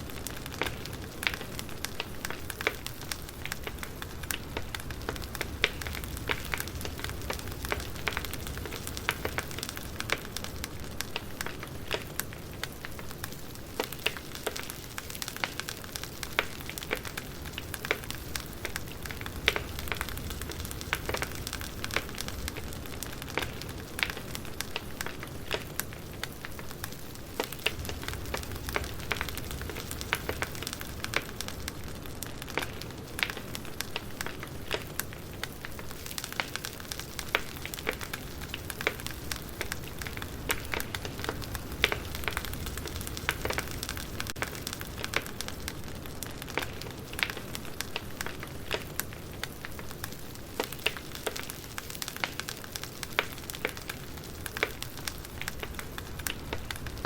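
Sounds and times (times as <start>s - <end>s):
firewood crackling: 0.0s - 57.0s.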